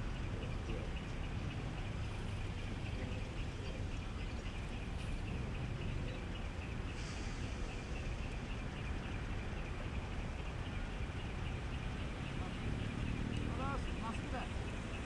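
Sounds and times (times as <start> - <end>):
truck engines idling: 0.0 - 15.0.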